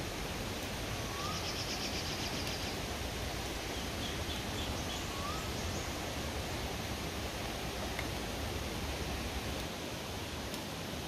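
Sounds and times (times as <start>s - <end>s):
rushing background hiss: 0.0s - 11.0s.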